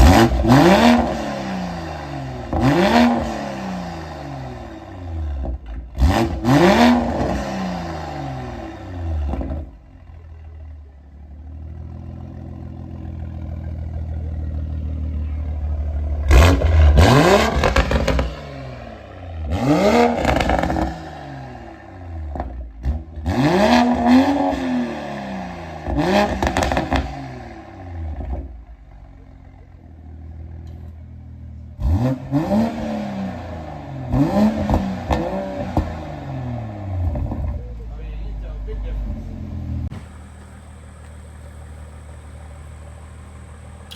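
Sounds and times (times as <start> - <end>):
car engine revving: 0.0 - 30.8, 31.4 - 37.8, 39.0 - 43.9.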